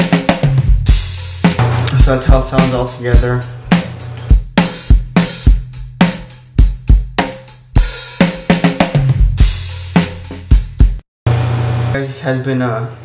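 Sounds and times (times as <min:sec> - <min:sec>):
acoustic drum kit groove: 0:00.0 - 0:11.0.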